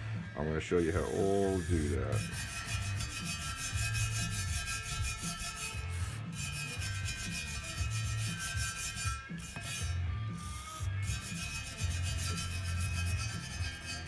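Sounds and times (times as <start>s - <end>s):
wire brush scrubbing metal: 0.6s - 14.0s.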